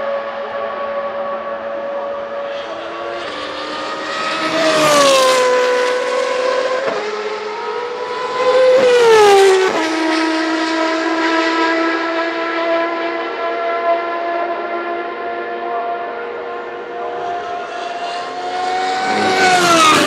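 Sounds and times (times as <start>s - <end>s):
racing cars passing by: 0.0s - 20.0s.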